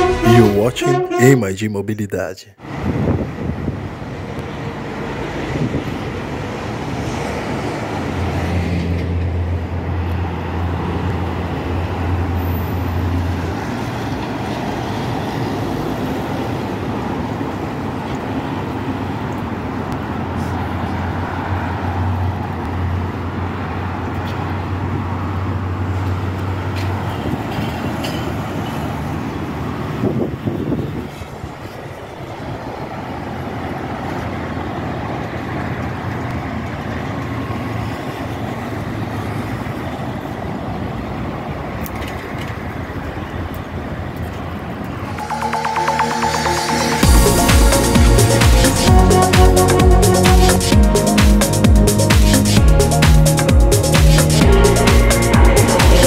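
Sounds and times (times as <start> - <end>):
heavy engines humming: 0.0 - 1.8, 3.3 - 56.0
road traffic: 0.0 - 56.0.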